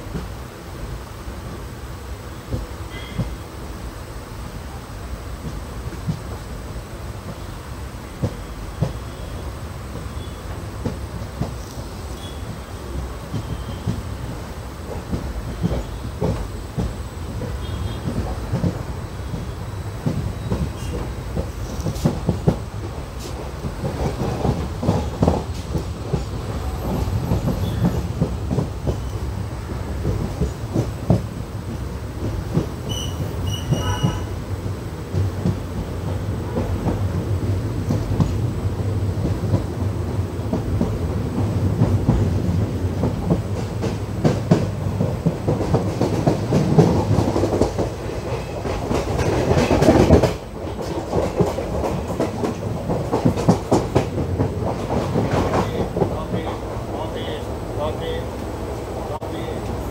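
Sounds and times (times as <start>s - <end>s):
clickety-clack over rail joints: 0.0s - 0.5s, 2.4s - 3.4s, 5.3s - 7.5s, 8.1s - 59.9s
train wheels rumbling on rail: 0.0s - 59.9s.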